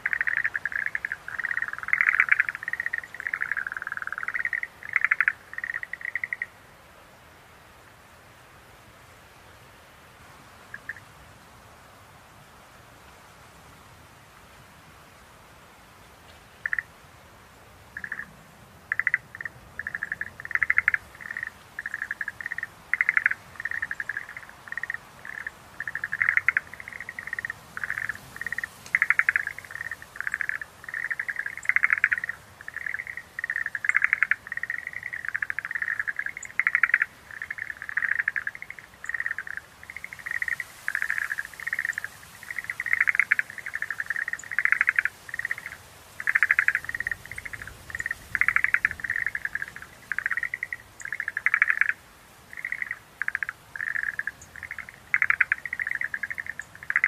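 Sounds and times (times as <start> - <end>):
frogs calling in trills: 0.0 - 6.6, 10.7 - 11.1, 16.6 - 16.9, 18.0 - 18.3, 18.9 - 57.0.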